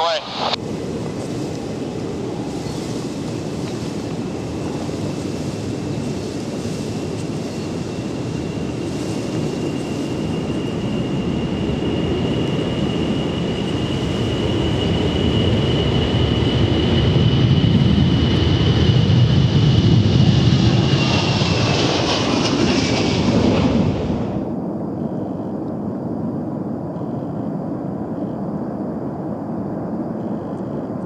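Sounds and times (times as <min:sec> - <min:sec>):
jet engines whine and rumble: 0:00.0 - 0:31.0.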